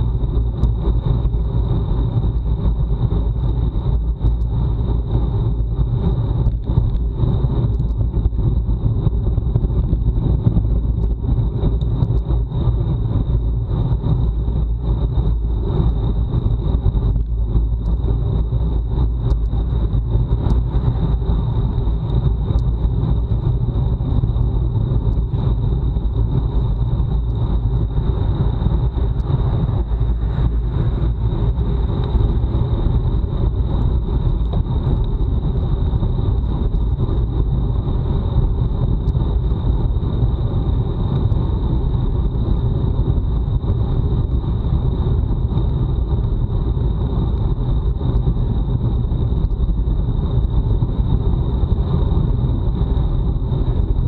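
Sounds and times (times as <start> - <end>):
road and tyre rumble: 0.0 - 54.0
wind rushing over microphone: 0.0 - 54.0.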